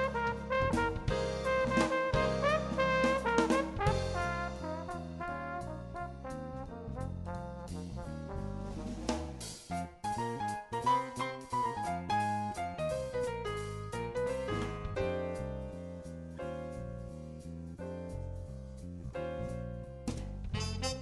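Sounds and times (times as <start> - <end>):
jazzy brass music: 0.0 - 21.0
steady bass line: 0.0 - 21.0.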